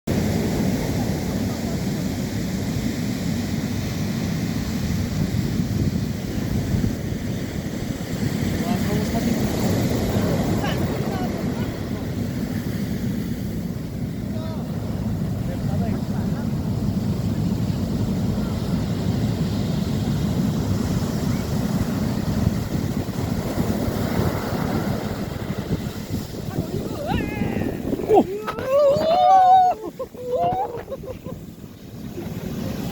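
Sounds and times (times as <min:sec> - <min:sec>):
sea surf: 0:00.1 - 0:32.9
wind buffeting microphone: 0:00.1 - 0:32.9.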